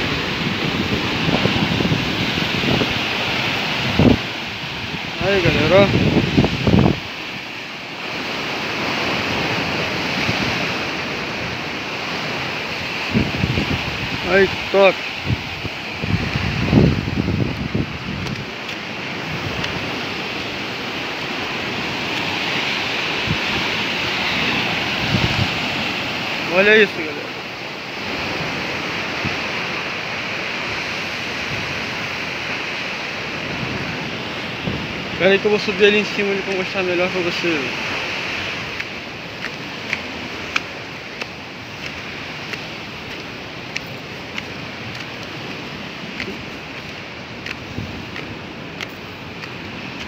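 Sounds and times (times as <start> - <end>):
surf breaking on rocky shore: 0.0 - 50.0
wind rumbling on microphone: 0.0 - 50.0.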